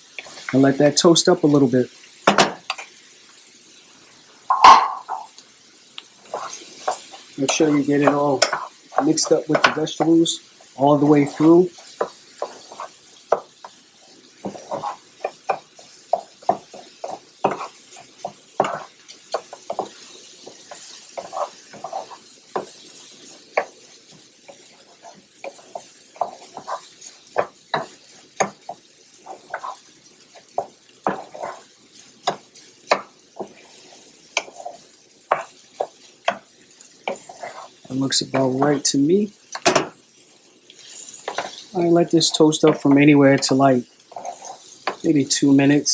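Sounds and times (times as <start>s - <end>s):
faint sizzle: 0.0s - 45.9s
wooden spoon scraping pan: 6.2s - 13.8s, 14.4s - 39.9s, 40.7s - 45.9s.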